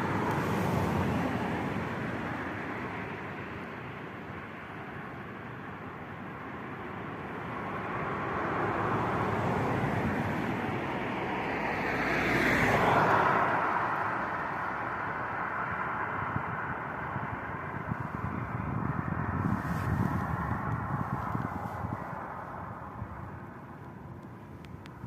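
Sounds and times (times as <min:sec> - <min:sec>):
road vehicle passing by: 0:00.0 - 0:04.5, 0:06.3 - 0:25.0.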